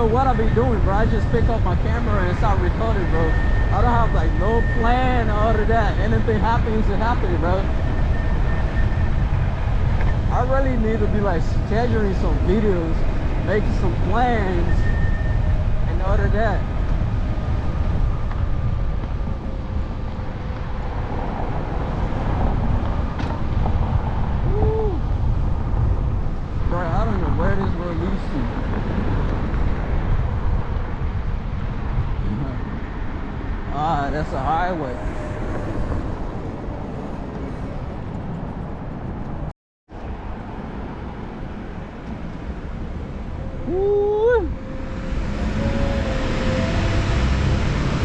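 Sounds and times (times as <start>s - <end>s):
road noise: 0.0s - 48.0s
wind rumbling on microphone: 0.0s - 48.0s.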